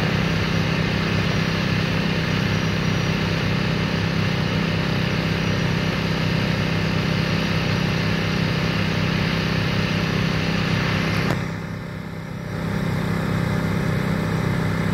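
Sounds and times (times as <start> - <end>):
engine running: 0.0 - 14.9.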